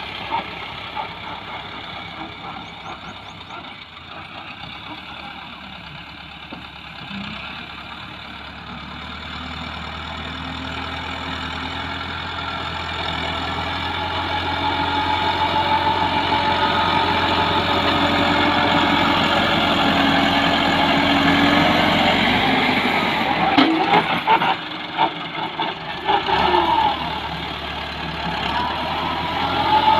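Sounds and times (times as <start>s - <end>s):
tractor diesel engine under load: 0.0s - 29.9s.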